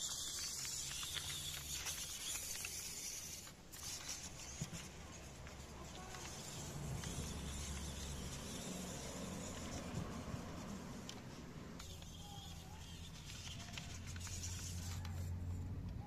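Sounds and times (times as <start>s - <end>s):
toy car motor and gears humming: 0.0s - 16.0s.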